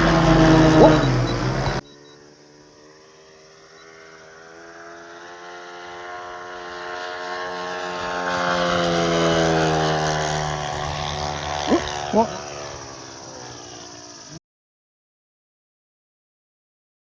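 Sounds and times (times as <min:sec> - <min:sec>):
model airplane engine flying by: 0:00.0 - 0:14.4.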